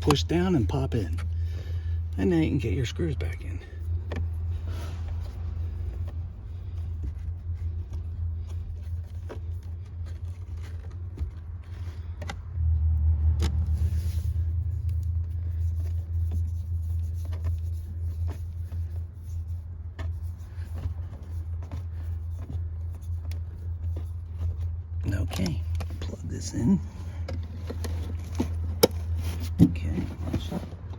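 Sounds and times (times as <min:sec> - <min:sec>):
low rumble: 0:01.0 - 0:30.9.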